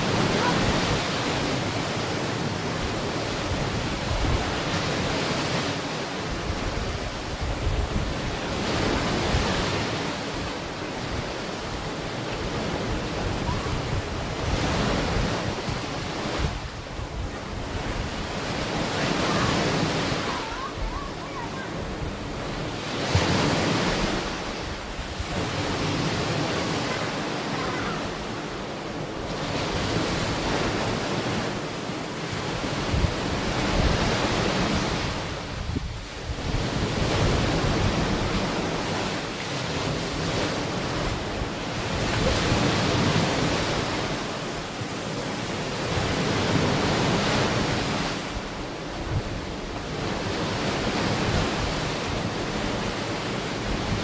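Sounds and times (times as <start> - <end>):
wind on microphone: 0.0 - 31.6, 32.4 - 44.9, 45.7 - 54.0
ocean waves breaking on beach: 0.0 - 54.0.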